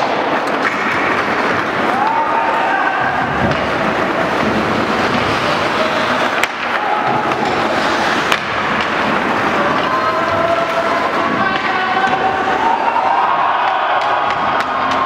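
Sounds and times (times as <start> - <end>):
crowd din: 0.0 - 15.0
skates scraping ice: 0.0 - 15.0.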